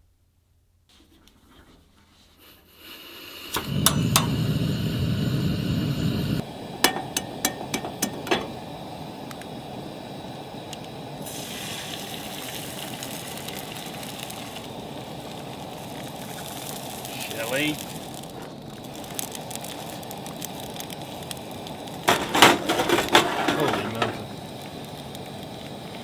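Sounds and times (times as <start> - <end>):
gas burner rushing: 1.5 - 26.0
burner hiss: 2.1 - 26.0
eggs sizzling in pan: 2.3 - 26.0
igniter clicks: 3.5 - 11.4, 13.0 - 26.0.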